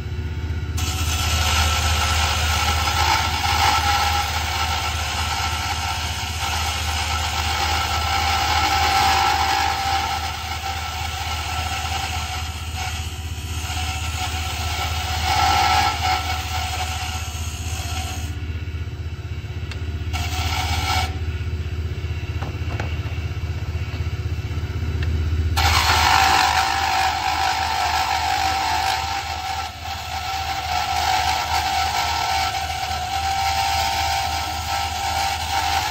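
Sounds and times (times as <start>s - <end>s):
turning tool scraping wood: 0.8s - 18.4s, 19.7s - 21.3s, 25.6s - 35.9s
lathe motor hum: 0.8s - 35.9s.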